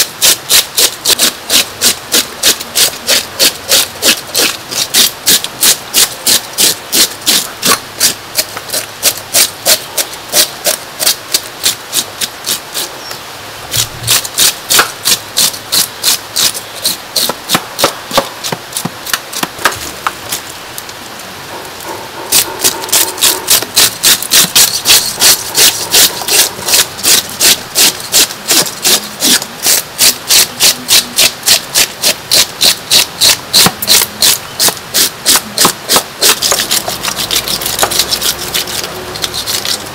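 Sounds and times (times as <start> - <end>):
fish scaler scraping scales: 0.0 - 19.5, 21.5 - 39.9.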